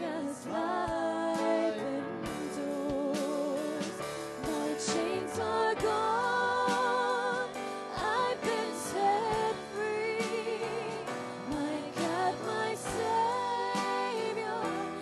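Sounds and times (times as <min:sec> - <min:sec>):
drum kit: 0:00.0 - 0:15.0
women singing with vibrato: 0:00.0 - 0:15.0.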